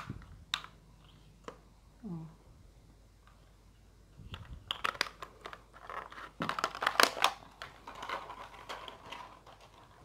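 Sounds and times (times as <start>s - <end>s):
plastic tubes clicking and rustling: 0.0s - 1.7s, 3.2s - 10.0s.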